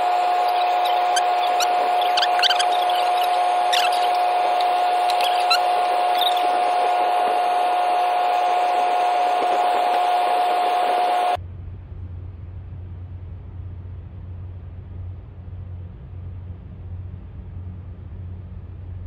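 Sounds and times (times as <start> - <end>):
loud machinery hum: 0.0 - 19.0
low drone: 0.0 - 19.0.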